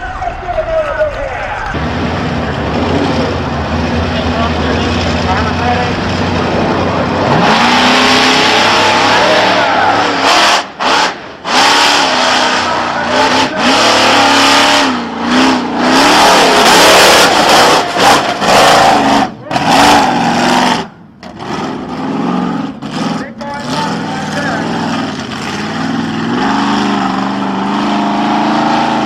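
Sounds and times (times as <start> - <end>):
truck engine revving hard: 1.7 - 29.0.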